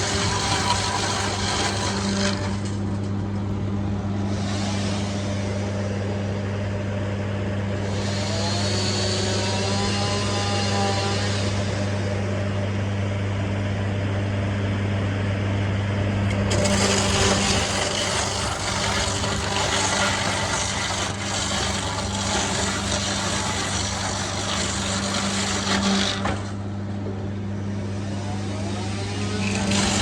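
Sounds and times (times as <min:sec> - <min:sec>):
loud rough machine noise: 0:00.0 - 0:30.0
sawmill motor hum: 0:00.0 - 0:30.0.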